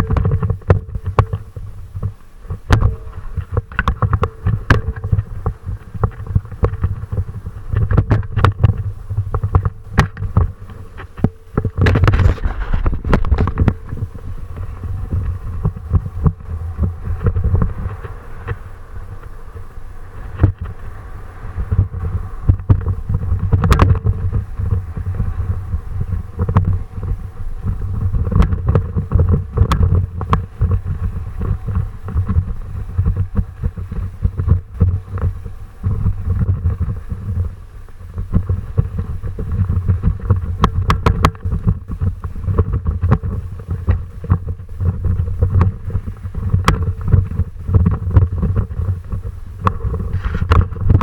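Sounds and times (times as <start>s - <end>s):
sharp clicks and rattles: 0.0s - 20.9s, 21.6s - 51.0s
low rumble: 0.0s - 51.0s.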